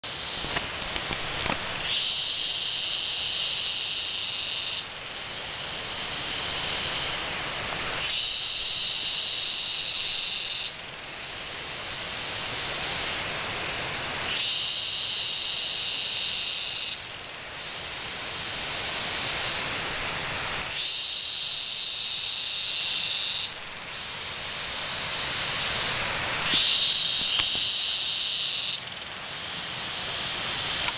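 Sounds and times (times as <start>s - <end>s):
cicadas shrilling: 0.0s - 30.9s.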